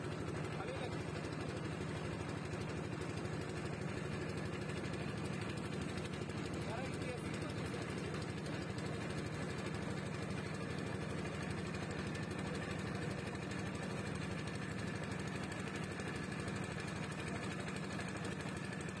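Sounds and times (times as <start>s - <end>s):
motorboat engine droning: 0.1s - 19.0s.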